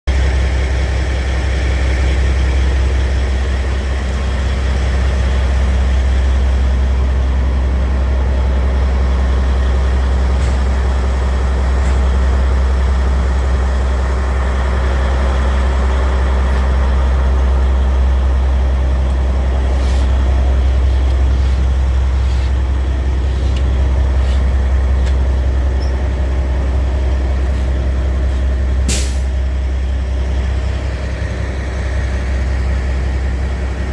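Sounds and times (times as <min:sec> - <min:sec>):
truck diesel engine idling: 0:00.1 - 0:33.9.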